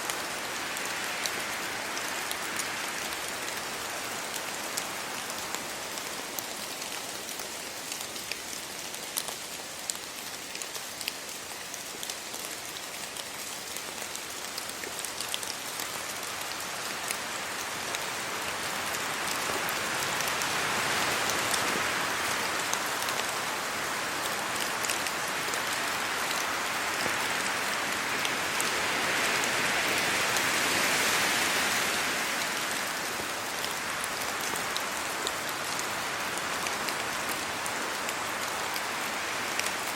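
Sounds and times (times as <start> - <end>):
rain falling on leaves: 0.0 - 39.9
wind gusts in wet trees: 0.0 - 39.9.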